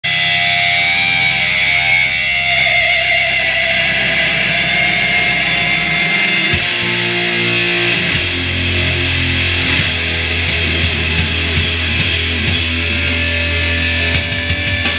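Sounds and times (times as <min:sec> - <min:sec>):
heavy rock band playing: 0:00.0 - 0:14.9.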